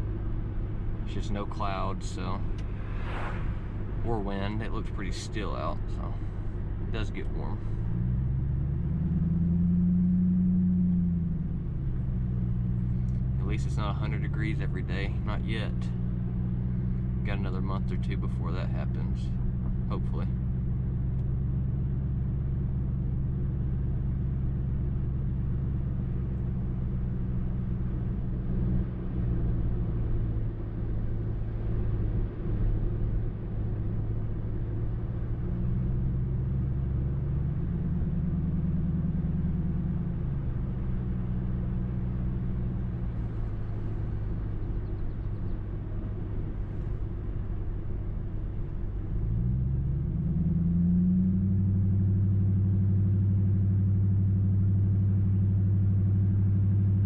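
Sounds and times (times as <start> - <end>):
car exhaust while driving: 0.0 - 57.0.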